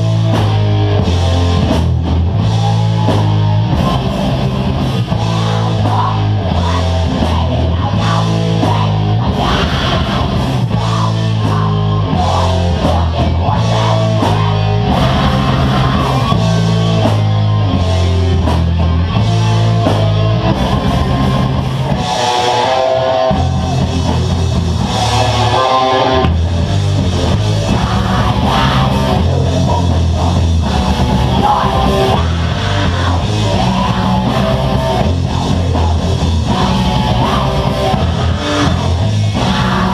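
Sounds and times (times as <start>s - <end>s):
bass guitar: 0.0s - 39.9s
distorted electric guitars: 0.0s - 39.9s
drum kit: 0.0s - 39.9s.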